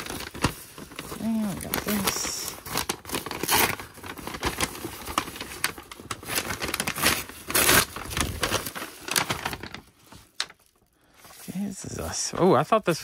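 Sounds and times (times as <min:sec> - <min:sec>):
paper envelope ripping: 0:00.0 - 0:11.7
paper crinkling and rustling: 0:00.0 - 0:13.0.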